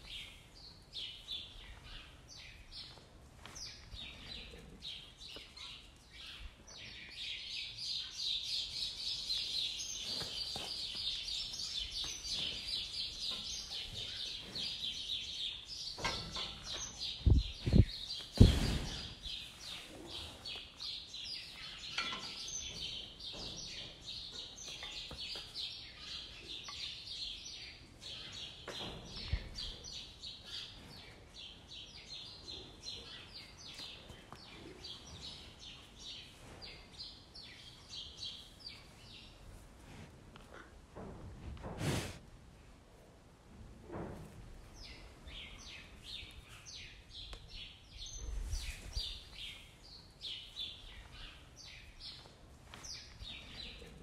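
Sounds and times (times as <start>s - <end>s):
small birds chirping: 0.0s - 39.6s, 44.6s - 54.0s.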